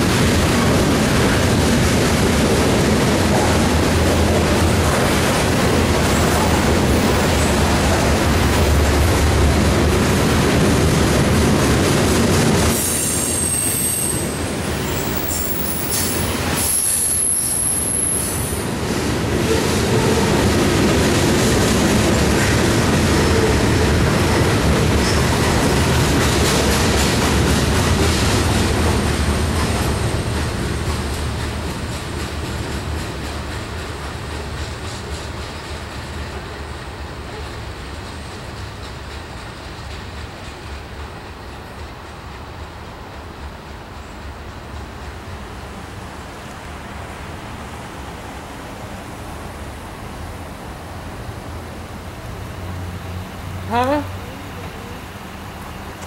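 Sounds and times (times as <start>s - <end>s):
train wheels rumbling and rattling: 0.0s - 56.0s.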